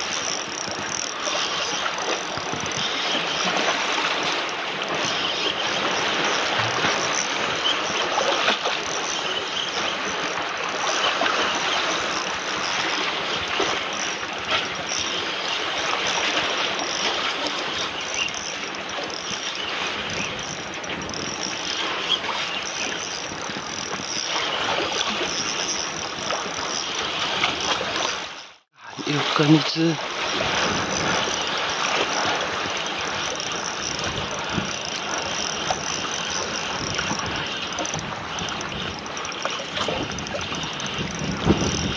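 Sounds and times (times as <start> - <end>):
sea water sloshing and splashing: 0.0 - 41.9.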